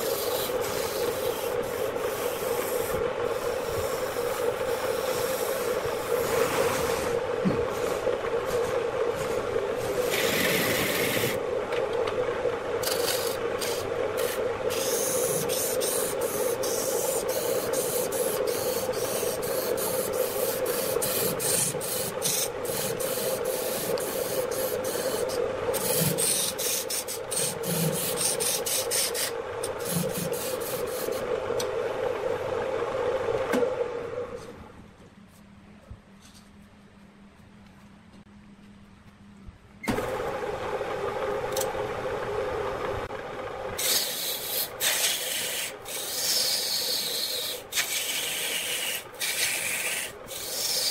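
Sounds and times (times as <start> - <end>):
wood lathe hum: 0.0 - 34.5, 39.9 - 50.9.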